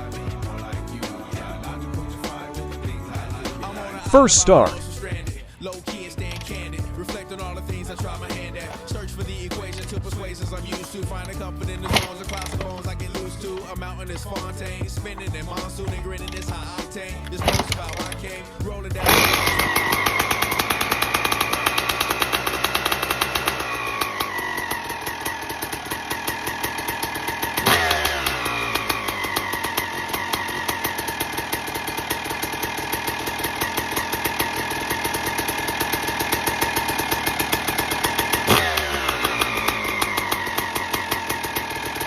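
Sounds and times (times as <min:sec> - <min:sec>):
two-stroke motorcycle engine revving: 0:06.0 - 0:42.0.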